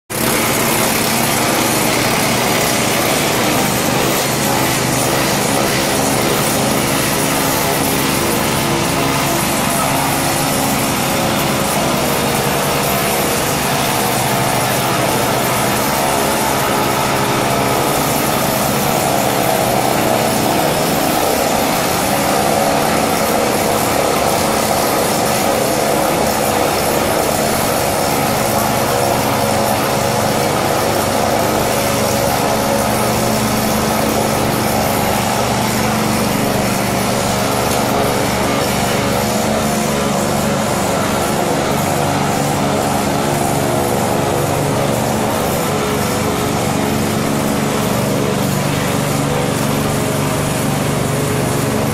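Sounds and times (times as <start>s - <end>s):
small engine droning: 0.1s - 51.9s.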